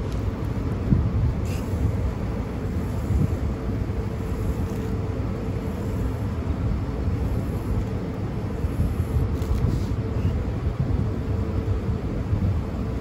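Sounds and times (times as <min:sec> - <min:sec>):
faint steady hum: 0:00.0 - 0:13.0
hvac machinery rumbling: 0:00.0 - 0:13.0.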